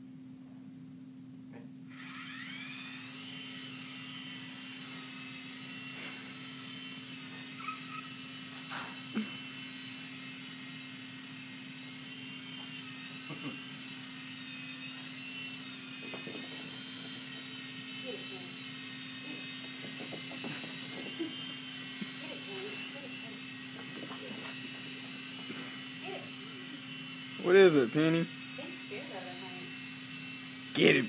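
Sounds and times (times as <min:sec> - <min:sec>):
rc helicopter motors whining: 0:01.9 - 0:31.0
rotor buzz: 0:01.9 - 0:31.0.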